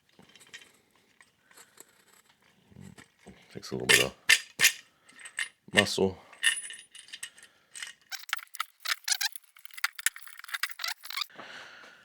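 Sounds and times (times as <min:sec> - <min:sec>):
metal tools clinking and rattling: 0:00.0 - 0:11.3.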